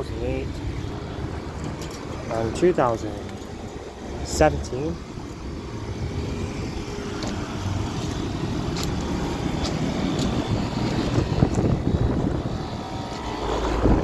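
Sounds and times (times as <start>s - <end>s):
air conditioner units running: 0.0s - 14.0s.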